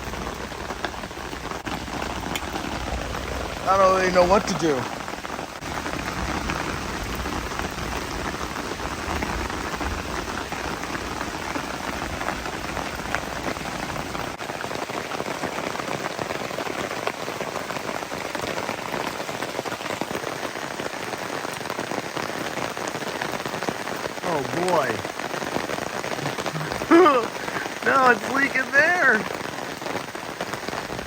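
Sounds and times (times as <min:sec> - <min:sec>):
heavy rain on a tarp: 0:00.0 - 0:31.0.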